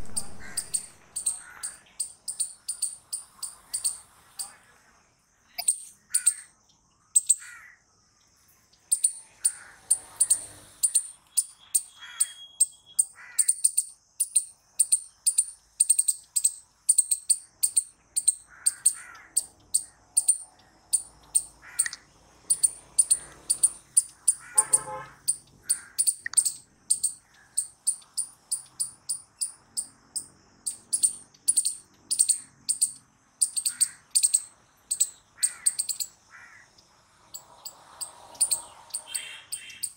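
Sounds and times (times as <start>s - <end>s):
fainter lower squirrel calls: 0.0s - 4.6s, 5.5s - 6.6s, 7.2s - 7.8s, 8.8s - 39.9s
squirrel chip calls: 0.0s - 4.6s, 5.5s - 6.6s, 7.2s - 7.8s, 8.8s - 39.9s.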